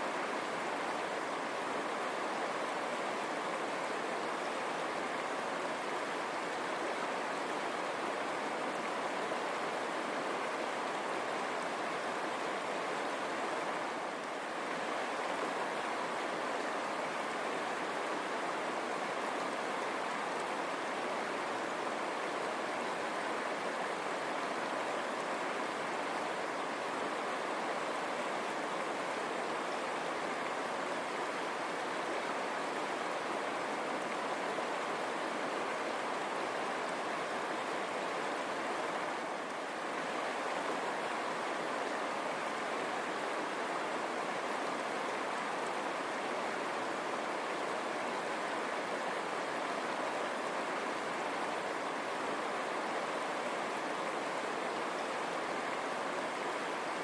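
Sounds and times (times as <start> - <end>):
river water rushing over stones: 0.0 - 57.0.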